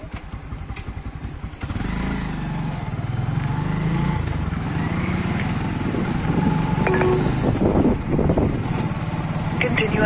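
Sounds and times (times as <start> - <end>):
vehicle engine idling and revving: 0.0 - 10.0.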